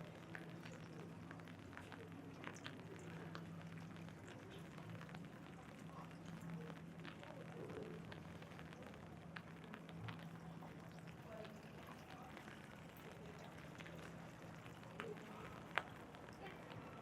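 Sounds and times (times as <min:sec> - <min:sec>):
faint hiss of rain: 0:00.0 - 0:17.0
raindrops tapping on umbrella: 0:00.0 - 0:17.0.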